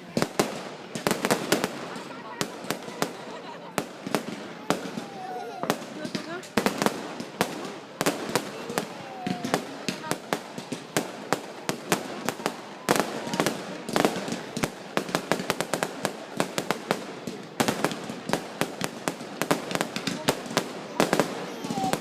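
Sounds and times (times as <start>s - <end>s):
fireworks bangs and cracks: 0.0s - 22.0s.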